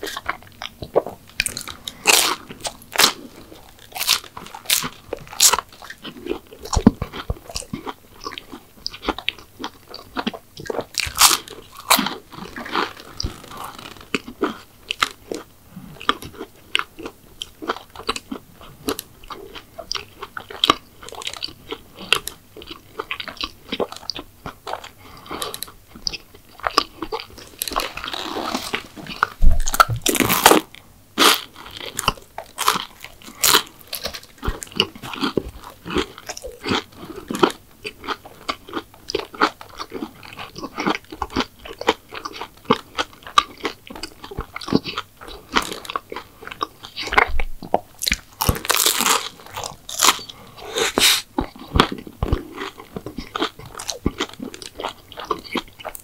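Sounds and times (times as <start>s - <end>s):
person crunching pastry: 0.0s - 56.0s.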